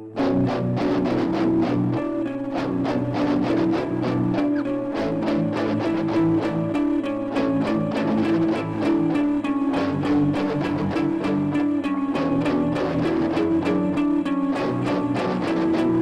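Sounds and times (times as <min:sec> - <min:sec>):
punk rock music: 0:00.0 - 0:16.0.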